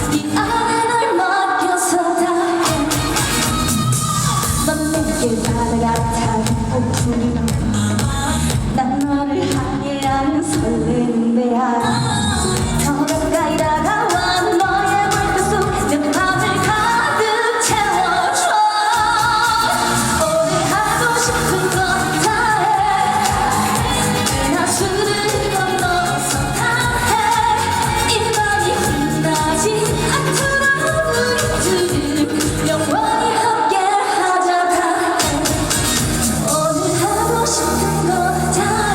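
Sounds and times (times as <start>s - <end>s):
woman singing: 0.0s - 38.9s
band backing track: 2.6s - 11.0s, 11.9s - 33.5s, 35.0s - 38.9s.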